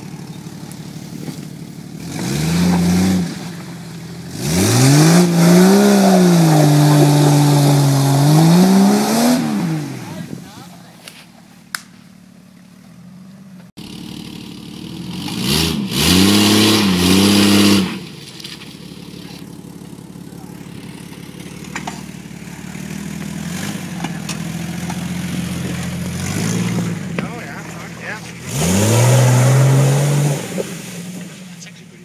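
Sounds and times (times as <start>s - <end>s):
car engine revving: 0.0s - 11.0s, 12.1s - 32.0s.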